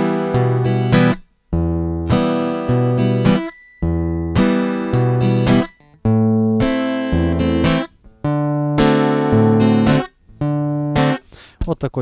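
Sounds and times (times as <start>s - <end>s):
acoustic guitar strumming: 0.0s - 11.6s.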